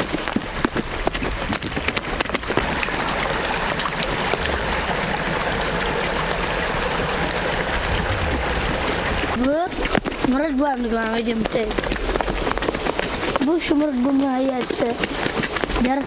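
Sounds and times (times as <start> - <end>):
hooves on stony track: 0.0 - 16.0
rushing stream: 0.0 - 16.0.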